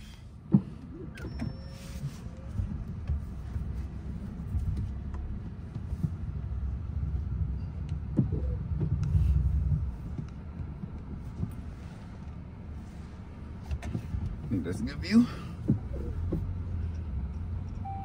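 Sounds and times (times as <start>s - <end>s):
car engine cabin rumble: 0.0s - 18.0s
light clicks and knocks in cabin: 0.0s - 18.0s.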